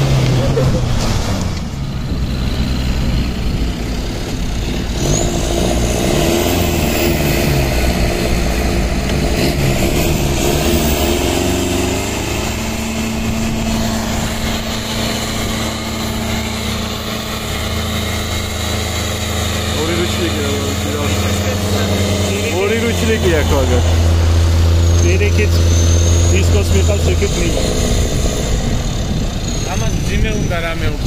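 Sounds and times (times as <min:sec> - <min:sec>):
off-road engine revving: 0:00.0 - 0:31.0.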